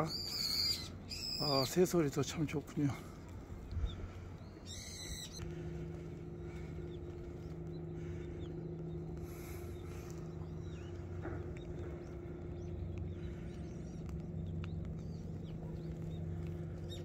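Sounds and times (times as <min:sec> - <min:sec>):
faint bird chirps: 0:00.0 - 0:17.0
steady low hum: 0:00.0 - 0:17.0.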